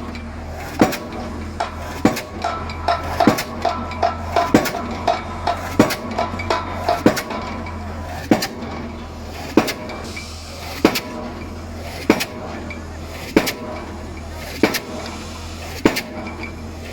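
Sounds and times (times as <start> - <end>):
engine droning: 0.0 - 16.9
pile-driving hammer clanking: 0.0 - 16.9.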